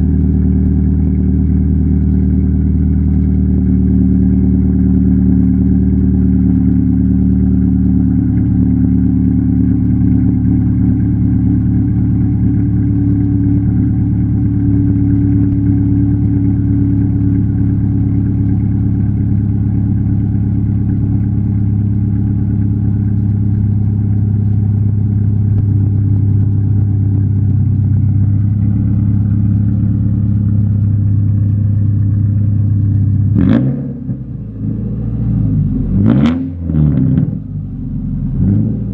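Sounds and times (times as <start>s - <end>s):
car engine idling loudly: 0.0s - 38.9s.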